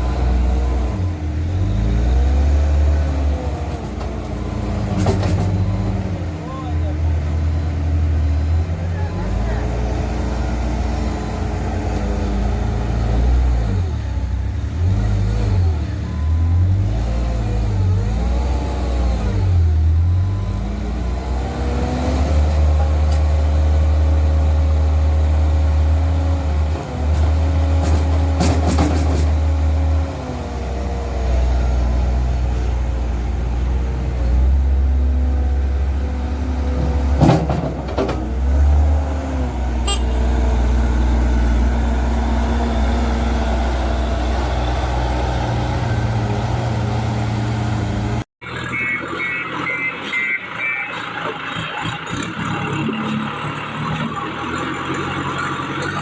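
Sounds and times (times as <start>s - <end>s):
heavy machine engine revving: 0.0s - 48.3s.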